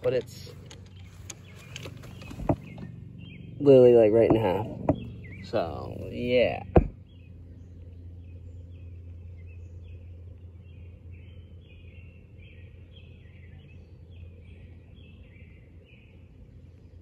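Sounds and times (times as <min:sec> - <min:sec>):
low outdoor hum: 0:00.0 - 0:17.0
small birds chirping: 0:00.0 - 0:17.0.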